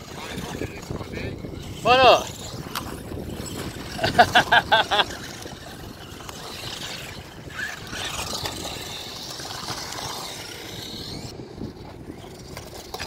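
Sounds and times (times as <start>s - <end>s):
rc trucks driving over stony dirt: 0.0s - 13.0s
wind rumble on microphone: 0.0s - 13.0s.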